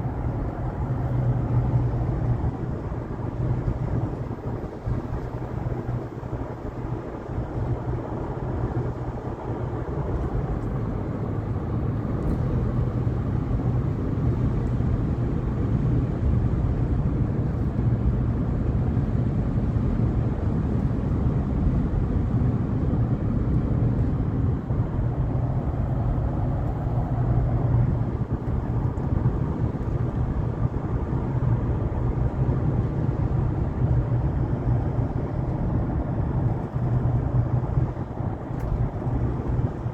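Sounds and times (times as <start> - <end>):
car engine and tyre noise: 0.0 - 39.9
wind against car: 0.0 - 39.9.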